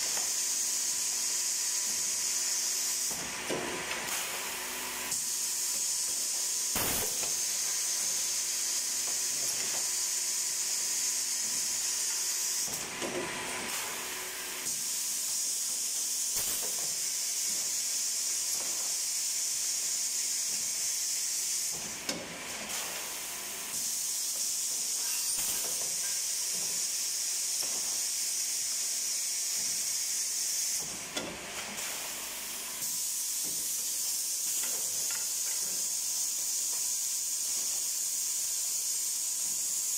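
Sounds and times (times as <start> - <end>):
woodworking machine hissing: 0.0 - 39.9.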